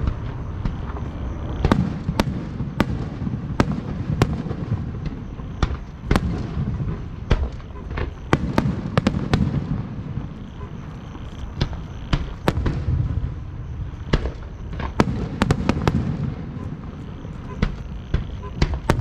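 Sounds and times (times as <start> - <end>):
fireworks cracking: 0.0 - 19.0
low rumble of booms: 0.0 - 19.0.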